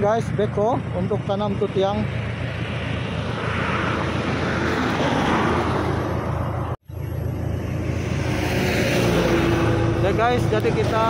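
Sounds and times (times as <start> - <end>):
engine droning: 0.0 - 11.0
rushing noise: 1.5 - 11.0.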